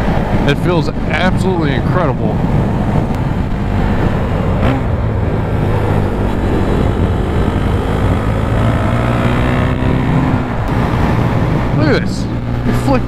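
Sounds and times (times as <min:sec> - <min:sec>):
motorcycle engine accelerating: 0:01.1 - 0:13.0.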